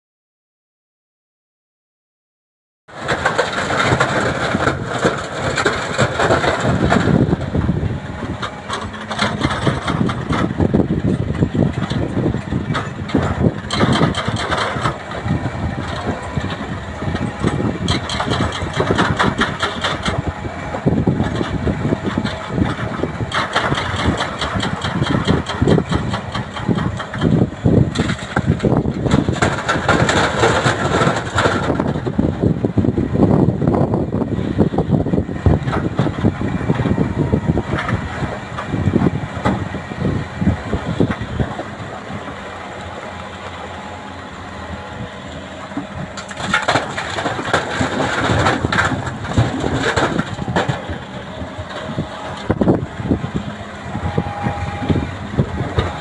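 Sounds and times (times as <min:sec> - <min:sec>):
excavator diesel engine running: 0:02.9 - 0:56.0.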